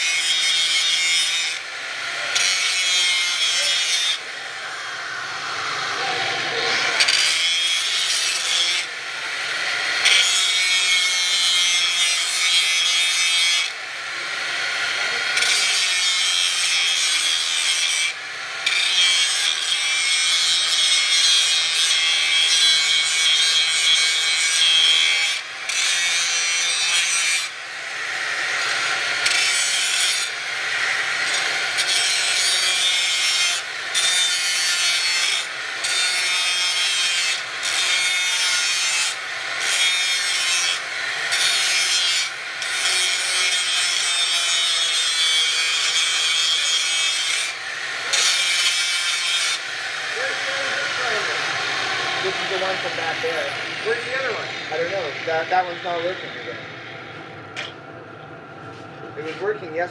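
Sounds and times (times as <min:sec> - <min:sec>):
power grinder grinding steel: 0:00.0 - 0:57.8.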